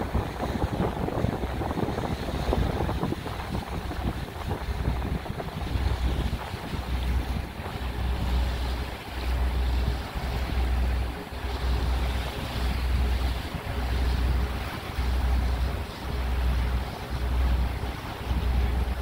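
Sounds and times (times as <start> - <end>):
boat engine noise: 0.0 - 19.0
water rushing: 0.0 - 19.0
wind buffeting microphone: 0.0 - 19.0.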